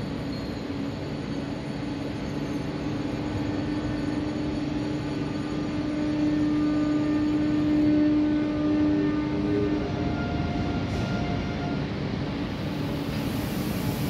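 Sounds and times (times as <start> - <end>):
electric locomotive humming: 0.0 - 14.0.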